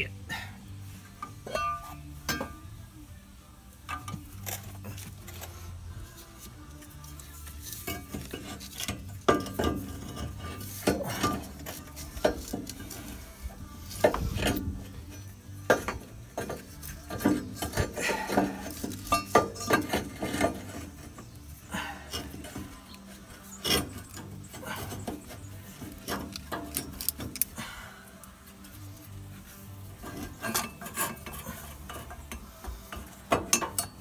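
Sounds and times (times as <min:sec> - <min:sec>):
metal manifold clinking and scraping: 0:01.0 - 0:02.9, 0:03.8 - 0:27.6, 0:28.4 - 0:34.0.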